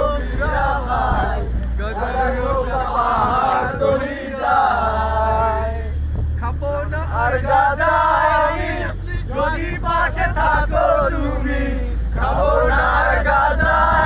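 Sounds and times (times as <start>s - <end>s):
group singing and shouting: 0.0s - 14.0s
low rumble: 0.0s - 14.0s.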